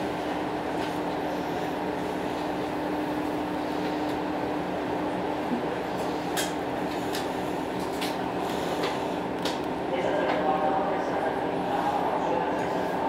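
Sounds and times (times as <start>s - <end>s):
diesel railcar humming: 0.0s - 13.0s.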